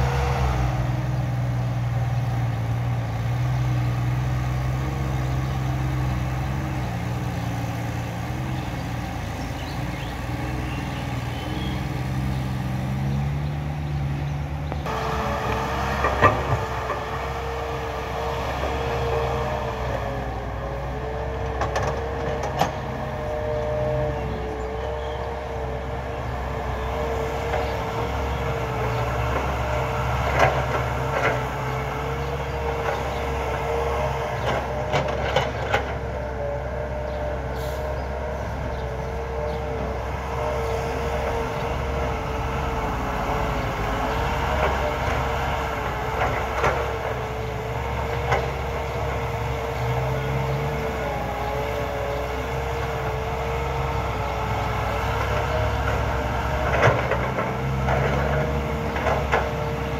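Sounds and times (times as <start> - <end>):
excavator engine drone with whine: 0.0 - 59.9.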